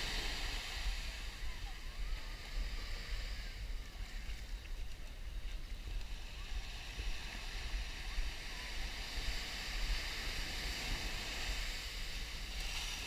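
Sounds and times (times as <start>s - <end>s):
surf washing on beach: 0.0s - 13.0s.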